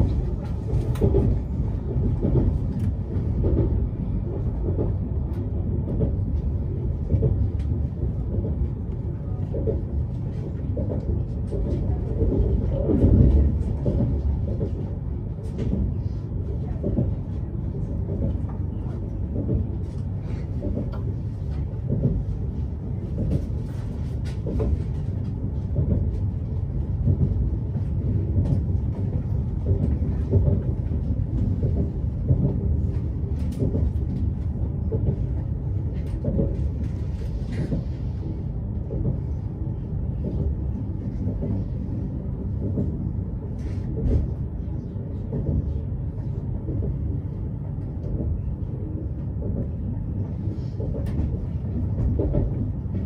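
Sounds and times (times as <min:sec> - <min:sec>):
electric train rumbling: 0:00.0 - 0:53.0.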